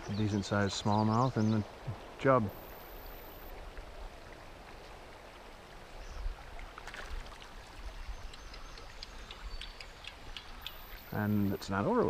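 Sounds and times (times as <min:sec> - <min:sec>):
small water splashes: 0:00.0 - 0:11.1
river water flowing: 0:00.0 - 0:12.0.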